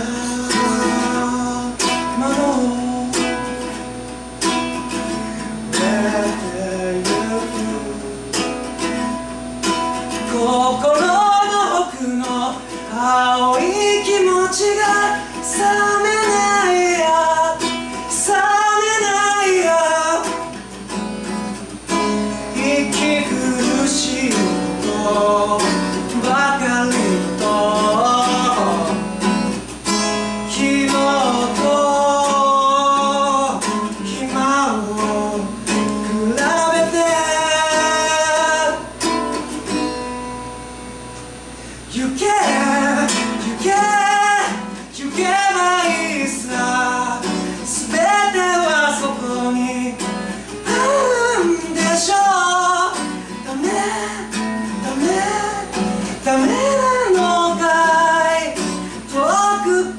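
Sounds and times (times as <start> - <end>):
man singing slow song: 0.0 - 21.0, 21.9 - 40.1, 41.8 - 59.9
acoustic guitar: 0.0 - 59.9.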